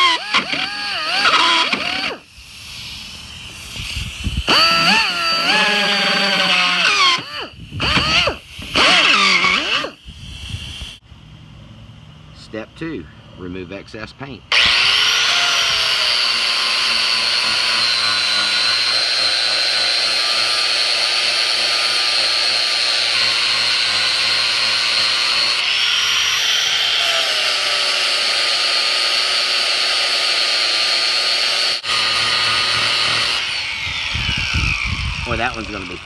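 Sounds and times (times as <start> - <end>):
power grinder whining: 0.0 - 10.0, 14.5 - 36.0.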